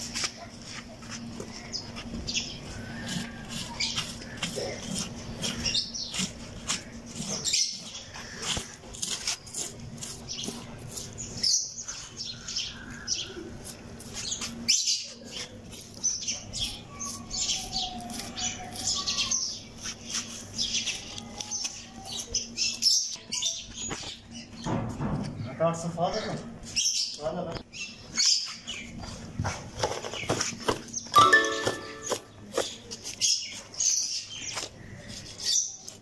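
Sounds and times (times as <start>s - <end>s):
small birds chirping: 0.2s - 24.7s, 25.4s - 36.0s.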